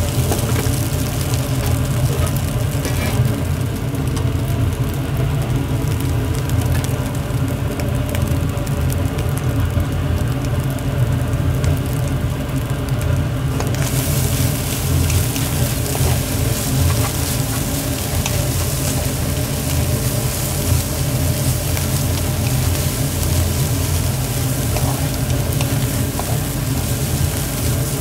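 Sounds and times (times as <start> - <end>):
noodles sizzling in a wok: 0.0 - 28.0.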